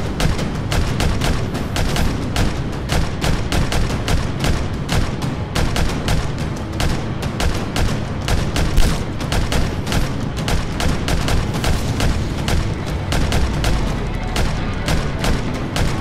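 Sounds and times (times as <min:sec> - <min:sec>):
continuous low rumble: 0:00.0 - 0:16.0
paintball markers firing: 0:00.0 - 0:16.0.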